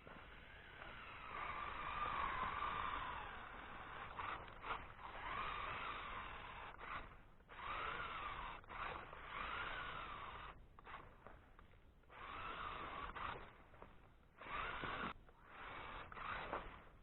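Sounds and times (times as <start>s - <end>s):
electric motor and gearbox whining: 0.0s - 17.0s.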